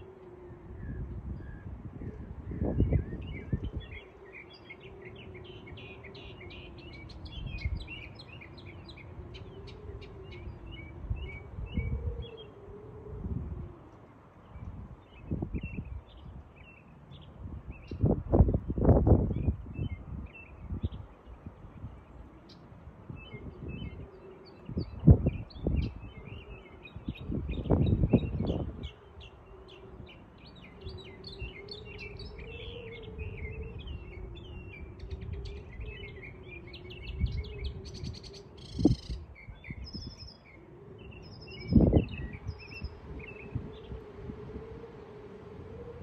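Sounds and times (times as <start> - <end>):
faint wavering hum: 0.0 - 46.0
small songbirds chirping: 0.0 - 46.0
wind rumbling on microphone: 0.0 - 46.0.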